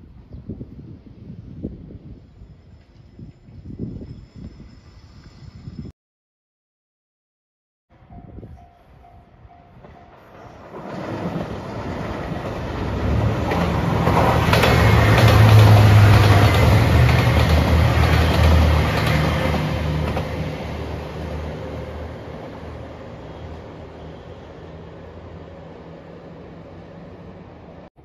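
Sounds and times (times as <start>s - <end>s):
diesel train engines: 0.7s - 5.9s, 8.0s - 27.9s.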